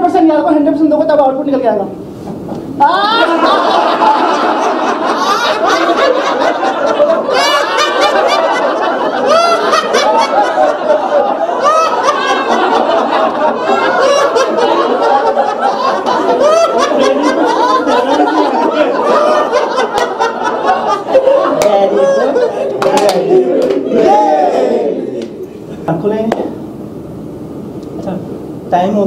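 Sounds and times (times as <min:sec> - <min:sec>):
group of people laughing: 0:02.5 - 0:25.8.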